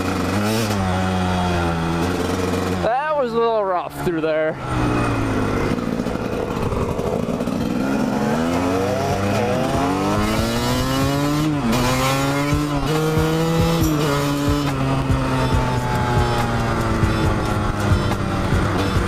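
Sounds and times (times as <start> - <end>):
dirt bike engines accelerating: 0.0 - 19.0.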